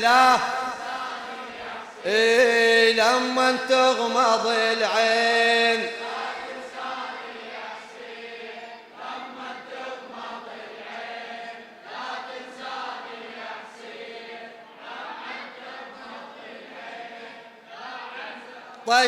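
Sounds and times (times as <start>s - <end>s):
crowd chanting in unison: 0.0s - 19.0s.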